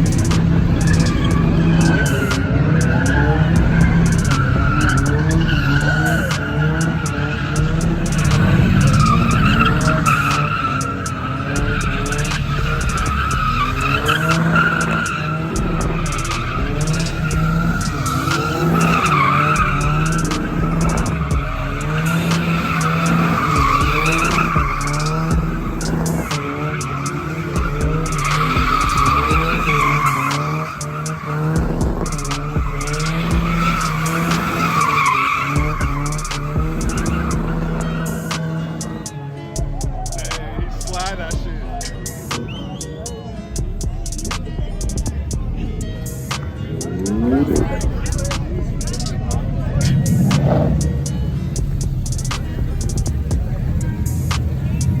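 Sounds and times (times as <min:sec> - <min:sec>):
car engine running: 0:00.0 - 0:55.0
car tyres squealing: 0:00.0 - 0:55.0.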